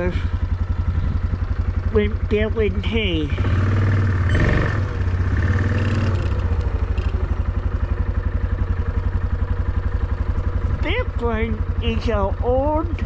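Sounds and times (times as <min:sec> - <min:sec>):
engine running with pulsing throb: 0:00.0 - 0:13.0.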